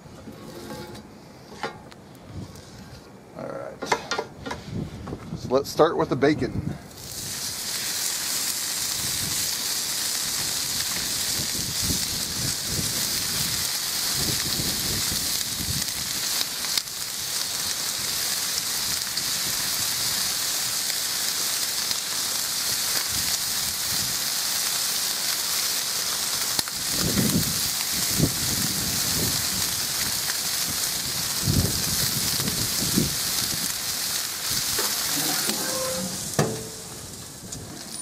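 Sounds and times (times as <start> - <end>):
bacon sizzling on a griddle: 6.9 - 38.0.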